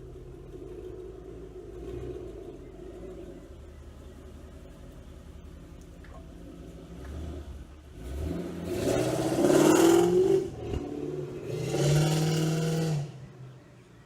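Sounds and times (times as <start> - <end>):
car exhaust revving: 0.0 - 13.6.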